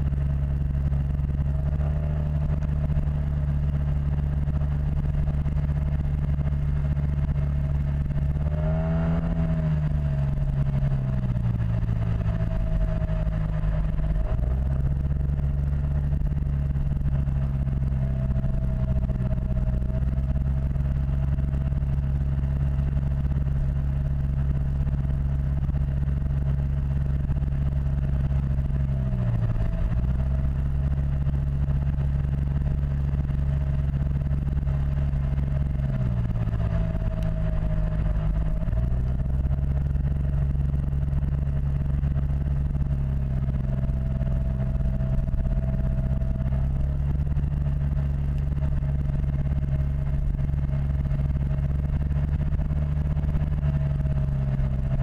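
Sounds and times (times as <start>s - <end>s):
heavy low rumble: 0.0s - 55.0s
scooter engine running: 0.0s - 55.0s.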